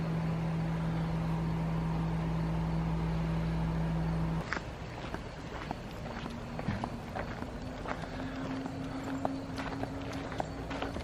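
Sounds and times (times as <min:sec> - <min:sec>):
motor hum with low drone: 0:00.0 - 0:11.0.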